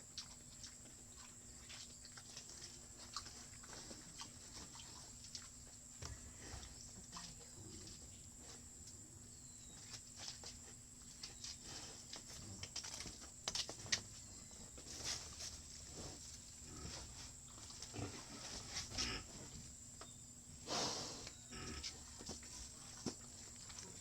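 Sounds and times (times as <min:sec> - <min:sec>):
pigs grunting and snuffling: 0:00.0 - 0:10.0, 0:11.0 - 0:19.8, 0:20.6 - 0:24.0.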